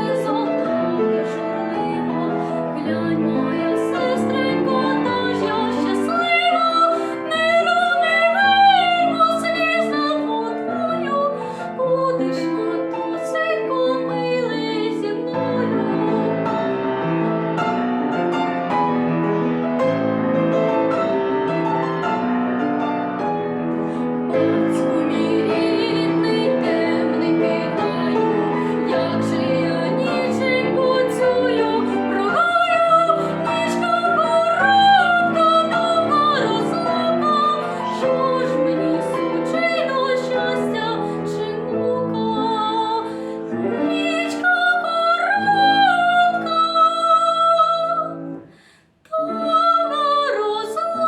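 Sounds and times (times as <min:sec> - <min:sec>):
woman singing with vibrato: 0:00.0 - 0:16.7, 0:24.3 - 0:48.5, 0:49.1 - 0:51.0
piano accompaniment: 0:00.0 - 0:51.0.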